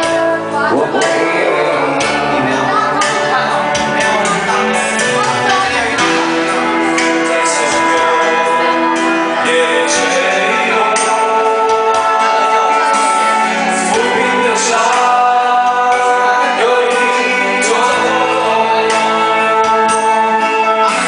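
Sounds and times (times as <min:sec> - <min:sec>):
backing track music: 0:00.0 - 0:21.0
person singing a pop ballad: 0:00.0 - 0:21.0.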